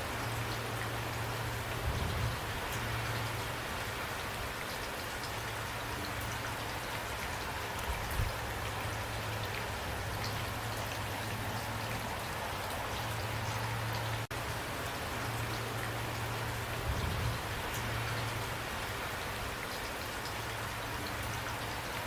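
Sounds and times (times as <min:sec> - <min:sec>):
raindrops ticking on a surface: 0:00.0 - 0:22.0.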